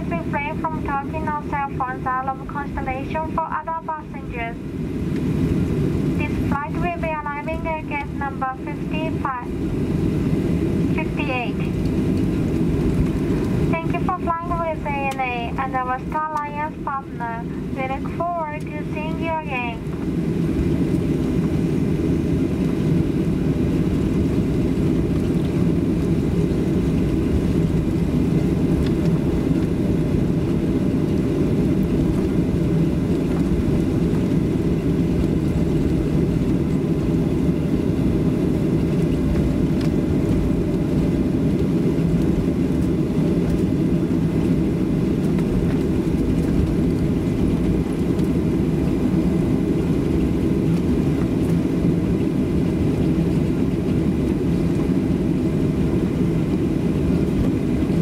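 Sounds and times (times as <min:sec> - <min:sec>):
airplane cabin low rumble: 0:00.0 - 0:58.0.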